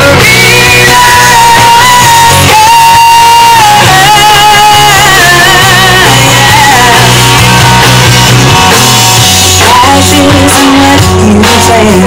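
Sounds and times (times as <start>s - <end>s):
country-rock band playing: 0.0s - 12.0s
wavering lead melody: 0.0s - 12.0s.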